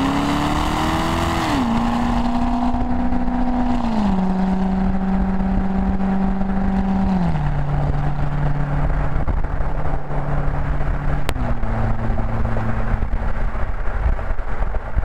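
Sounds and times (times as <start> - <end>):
car engine droning: 0.0 - 15.0
road and wind rumble: 0.0 - 15.0.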